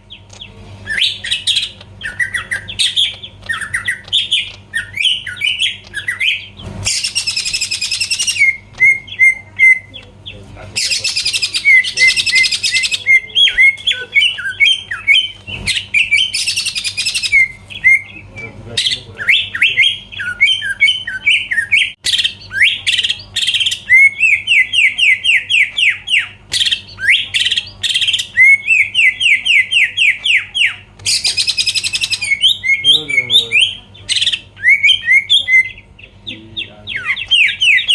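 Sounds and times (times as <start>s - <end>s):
bird singing chirps and whistles: 0.1s - 37.9s.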